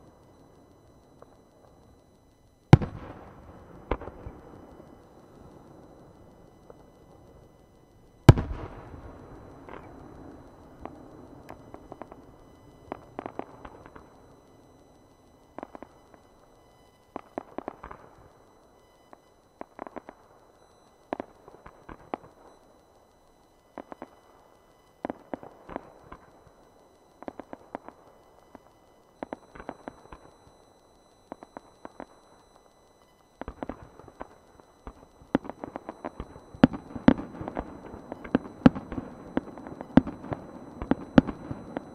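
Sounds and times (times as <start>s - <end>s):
firework cracks and pops: 2.6s - 14.5s, 15.5s - 16.3s, 17.1s - 18.4s, 19.1s - 32.7s, 33.3s - 41.9s.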